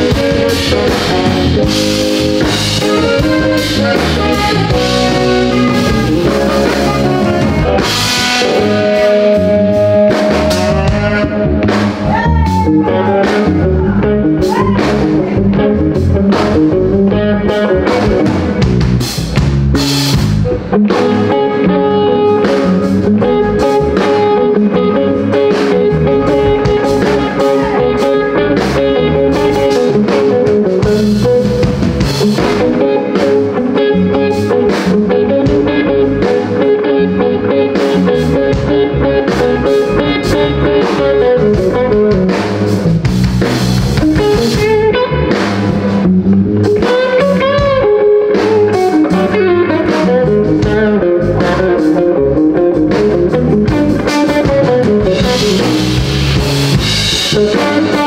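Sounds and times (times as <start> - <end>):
blues band playing: 0.0 - 58.0
electric guitar lead notes: 0.0 - 58.0.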